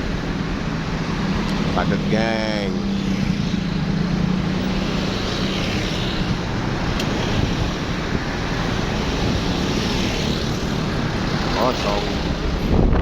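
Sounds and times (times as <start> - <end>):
rush of road noise: 0.0 - 13.0
vehicle engines running: 0.0 - 13.0.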